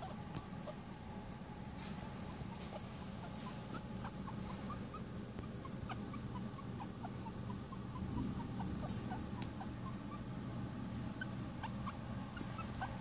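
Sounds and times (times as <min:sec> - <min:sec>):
puppies squeaking: 0:00.0 - 0:00.8, 0:02.2 - 0:10.4, 0:11.1 - 0:13.0
steady low hum: 0:00.0 - 0:13.0.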